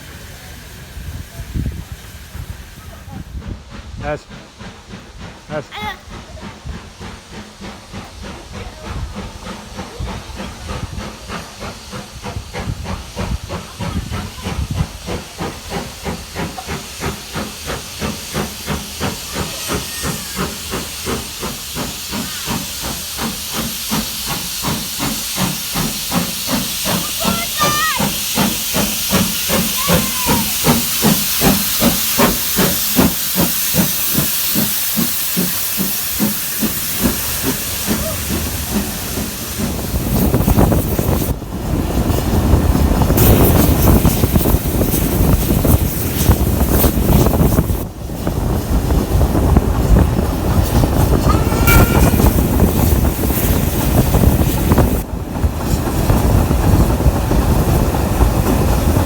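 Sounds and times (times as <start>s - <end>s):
hiss of steam: 0.0s - 59.0s
steam locomotive chuffing: 0.0s - 59.0s
train running rumble: 0.0s - 59.0s.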